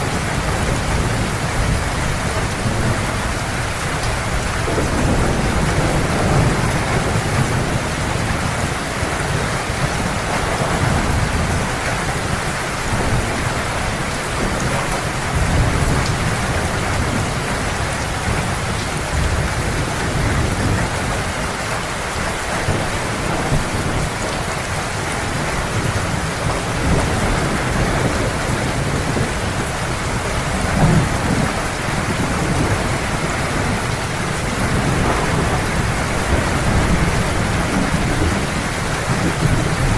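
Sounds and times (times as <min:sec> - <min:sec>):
heavy rain falling: 0:00.0 - 0:39.9
low rolling thunder: 0:00.0 - 0:39.9.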